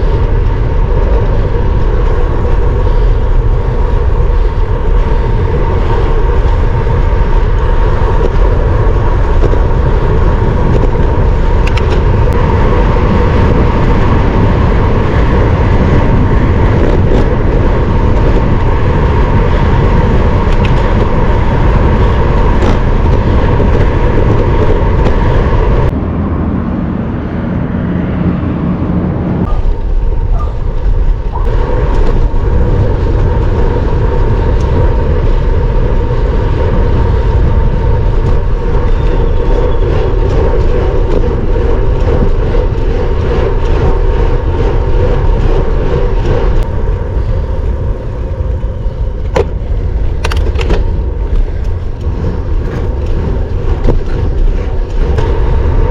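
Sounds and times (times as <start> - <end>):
road noise: 0.0 - 55.9
wind rushing over microphone: 0.0 - 55.9.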